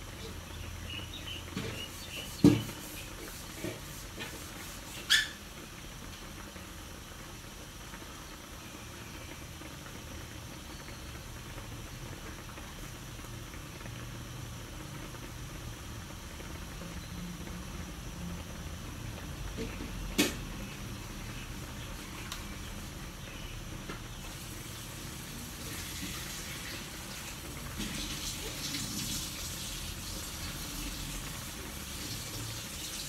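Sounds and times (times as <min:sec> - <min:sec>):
marinade bubbling in a wok: 0:00.0 - 0:33.0.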